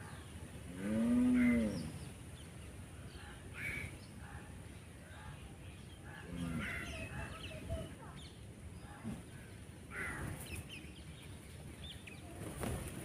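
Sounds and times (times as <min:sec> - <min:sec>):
birds calling: 0:00.0 - 0:12.9.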